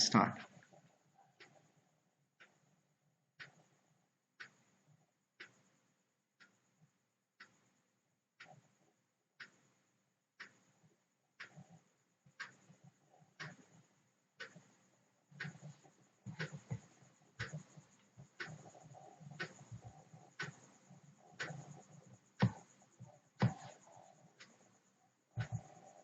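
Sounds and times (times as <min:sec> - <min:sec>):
faint low background noise: 0:00.0 - 0:26.0
steady ticking: 0:00.0 - 0:26.0.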